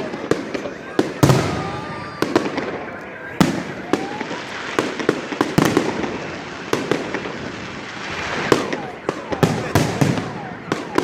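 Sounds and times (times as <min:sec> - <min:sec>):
firework bangs: 0:00.0 - 0:11.0
firework crackling: 0:00.0 - 0:11.0
firework whistles: 0:00.0 - 0:11.0.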